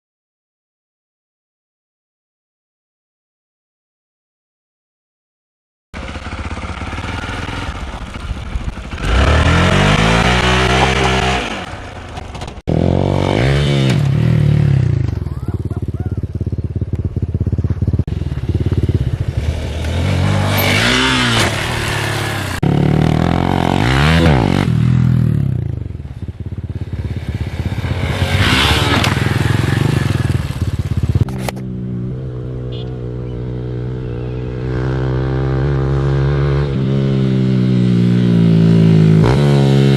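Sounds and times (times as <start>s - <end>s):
motorcycle engine revving: 6.0s - 39.9s.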